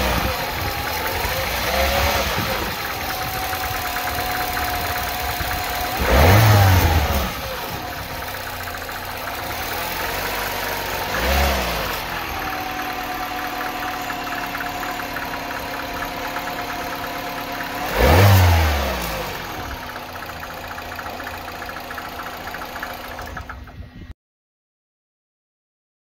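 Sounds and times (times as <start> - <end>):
petrol engine idling and revving: 0.0 - 24.1.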